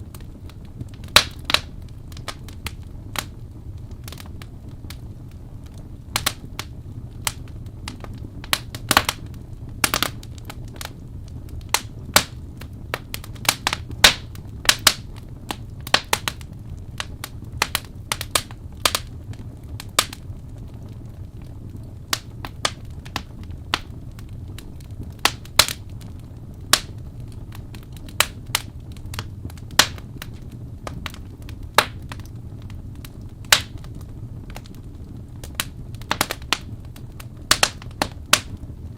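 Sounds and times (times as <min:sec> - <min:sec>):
low rumble of burning: 0:00.0 - 0:38.9
wood fire crackling: 0:00.0 - 0:38.9.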